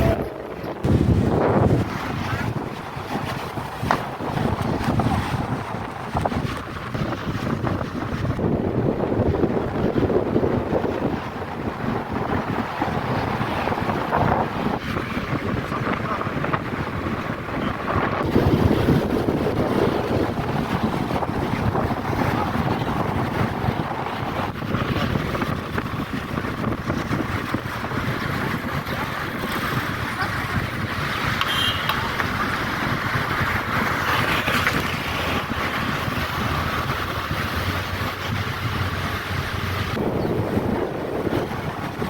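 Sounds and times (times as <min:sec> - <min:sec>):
ship engine rumble: 0:00.0 - 0:42.0
water noise: 0:00.0 - 0:42.0
wind buffeting microphone: 0:00.0 - 0:42.0.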